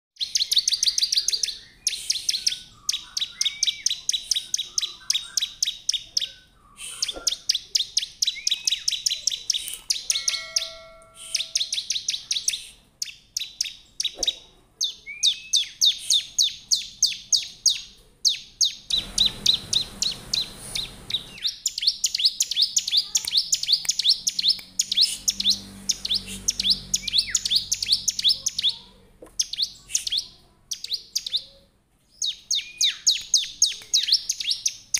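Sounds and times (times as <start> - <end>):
bird singing rapid chirps: 0.2 - 31.6, 32.2 - 34.9.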